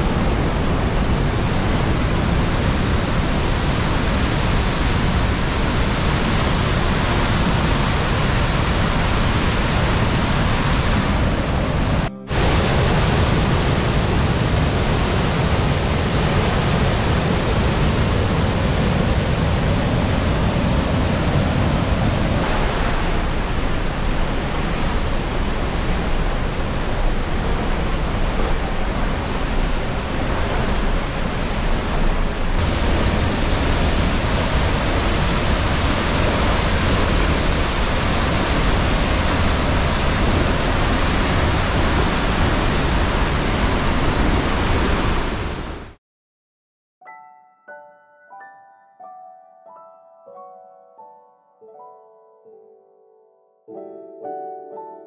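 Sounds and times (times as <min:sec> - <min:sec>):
waterfall: 0:00.0 - 0:46.0
whitewater roaring over boulders: 0:00.0 - 0:46.0.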